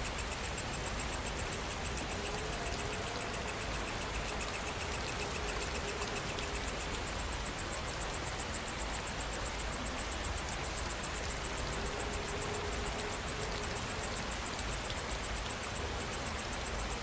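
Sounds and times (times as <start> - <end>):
insect trilling: 0.0 - 17.0
steady rain: 0.0 - 17.0.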